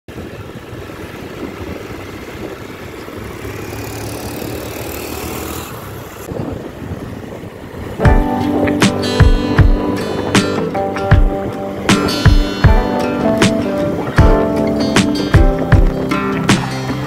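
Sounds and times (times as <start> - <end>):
low engine hum: 0.1 - 17.0
road noise hiss: 0.1 - 17.0.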